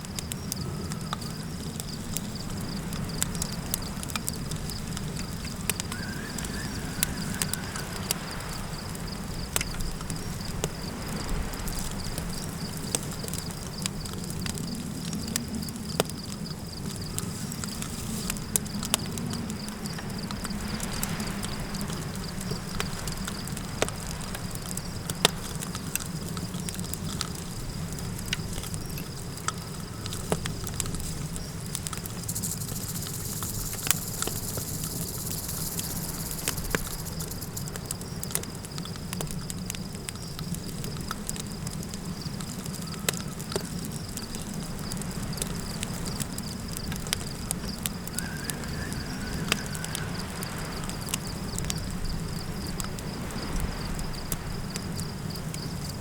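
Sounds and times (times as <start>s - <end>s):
wind rumble: 0.0s - 39.4s, 43.9s - 56.0s
campfire crackling and popping: 0.0s - 56.0s
insect trill: 0.1s - 56.0s.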